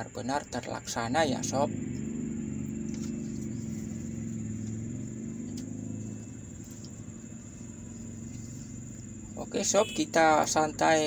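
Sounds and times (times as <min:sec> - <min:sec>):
low vehicle engine hum: 0:00.0 - 0:11.0.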